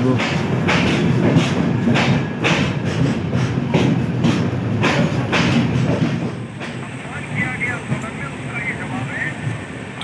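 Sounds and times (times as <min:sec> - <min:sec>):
train low rumble: 0:00.0 - 0:10.0
train wheels clattering over rail joints: 0:00.0 - 0:10.0.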